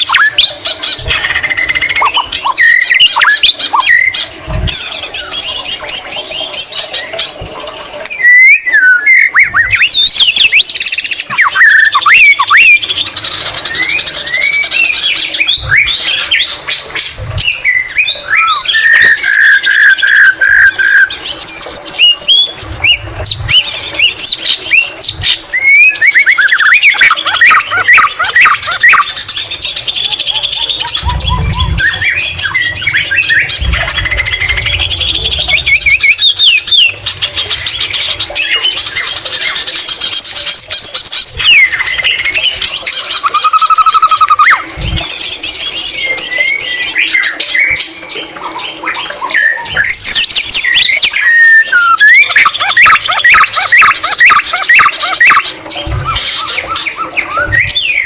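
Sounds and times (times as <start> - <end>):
songbird singing: 0.0 - 7.4, 8.0 - 58.0.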